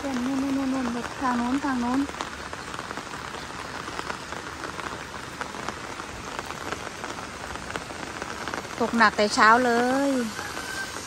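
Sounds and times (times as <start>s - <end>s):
heavy rain on a flooded street: 0.0s - 11.0s.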